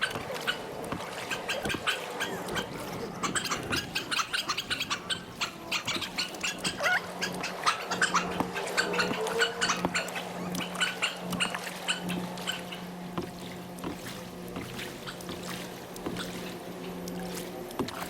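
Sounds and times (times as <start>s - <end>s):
birds chirping: 0.0s - 17.7s
low hum: 0.0s - 18.0s.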